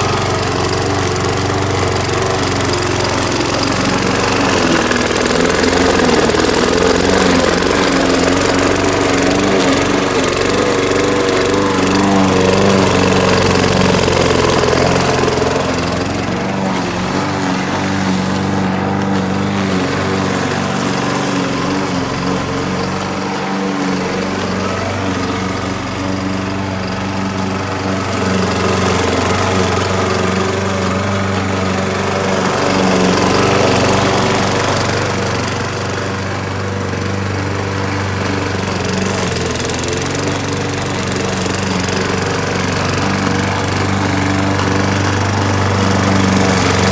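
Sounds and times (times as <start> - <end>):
lawn mower engine cutting grass: 0.0 - 46.9.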